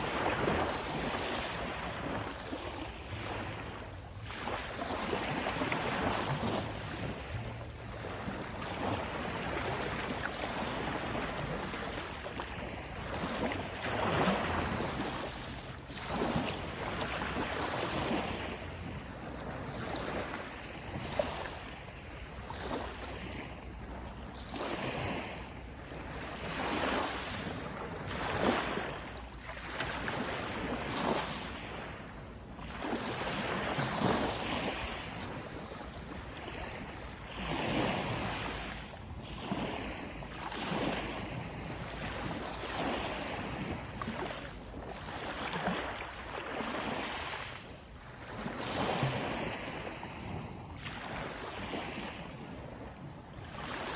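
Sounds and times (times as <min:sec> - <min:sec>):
sea waves washing in: 0:00.0 - 0:53.9.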